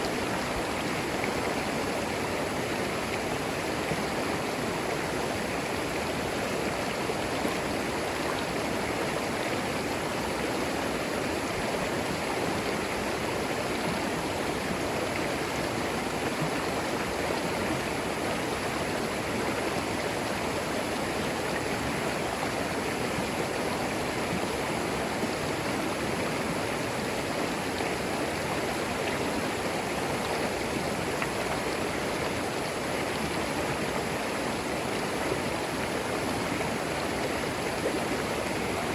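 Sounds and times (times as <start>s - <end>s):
creek babbling over stones: 0.0s - 38.9s.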